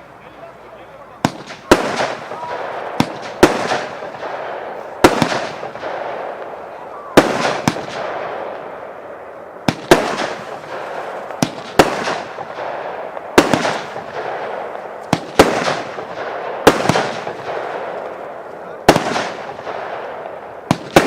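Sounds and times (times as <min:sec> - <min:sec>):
firework bangs: 0:00.0 - 0:21.0
firework crackle: 0:00.0 - 0:21.0.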